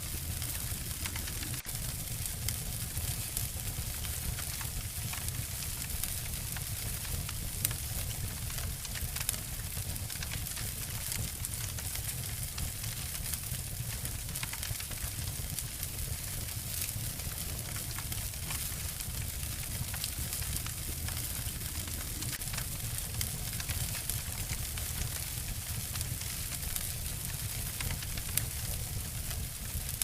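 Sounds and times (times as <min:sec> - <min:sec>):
fire low rumble: 0:00.0 - 0:30.0
wood fire crackling: 0:00.0 - 0:30.0.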